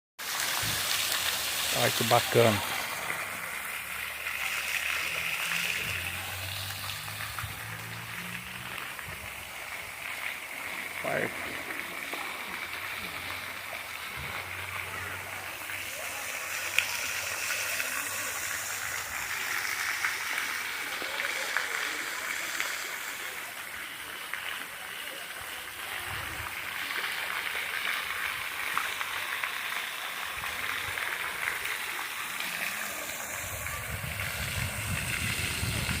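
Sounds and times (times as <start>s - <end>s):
water rushing and splashing: 0.2s - 36.0s.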